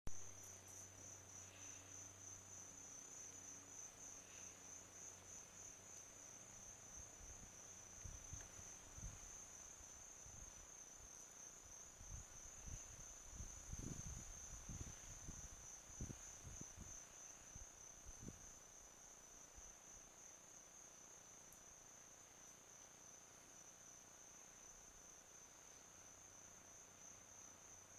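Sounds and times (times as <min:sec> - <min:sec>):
faint crickets trilling: 0:00.1 - 0:27.9.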